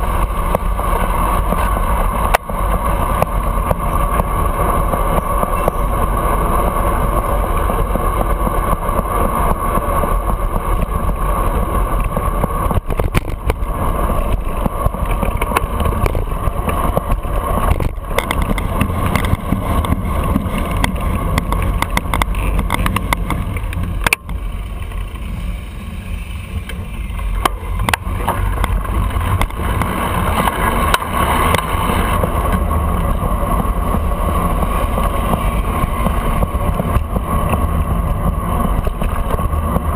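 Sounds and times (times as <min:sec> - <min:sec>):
road rumble: 0:00.0 - 0:39.9
wind noise: 0:00.0 - 0:39.9.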